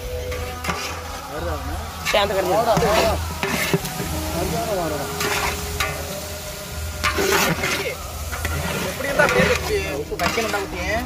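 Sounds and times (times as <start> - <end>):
meat sizzling in oil: 0.0 - 11.0
metal ladle scraping pot: 0.2 - 1.2, 2.0 - 10.8.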